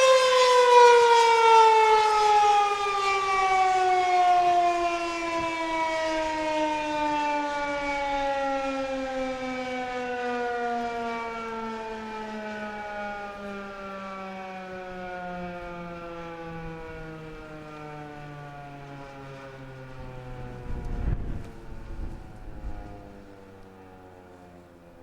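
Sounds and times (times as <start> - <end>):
warning siren winding down: 0.0 - 25.0.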